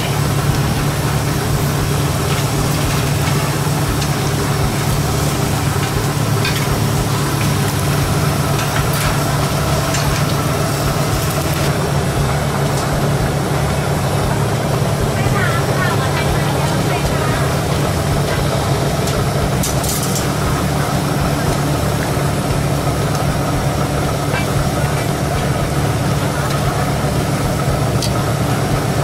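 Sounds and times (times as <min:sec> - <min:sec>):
engine idling hum: 0:00.0 - 0:29.0.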